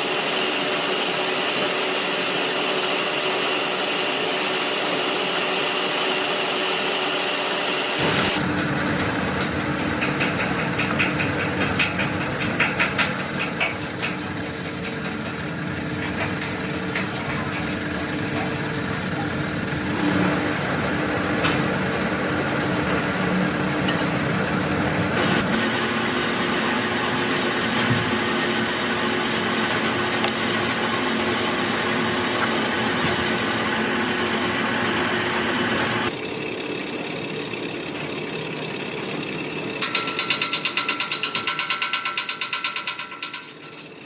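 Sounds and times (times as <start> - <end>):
workshop machinery humming: 0.0 - 44.0.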